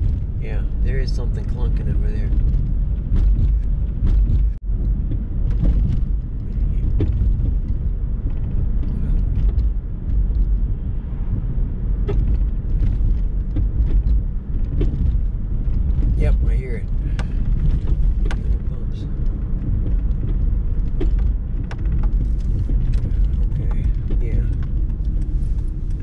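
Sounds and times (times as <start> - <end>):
low road rumble: 0.0 - 26.0
suspension clunks: 0.0 - 26.0.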